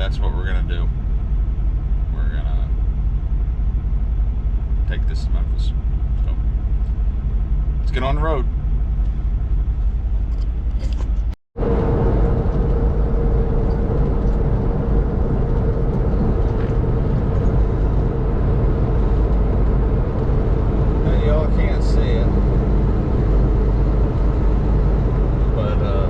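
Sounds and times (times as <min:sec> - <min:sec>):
steady hum: 0:00.0 - 0:26.0
truck engine and road rumble: 0:00.0 - 0:26.0.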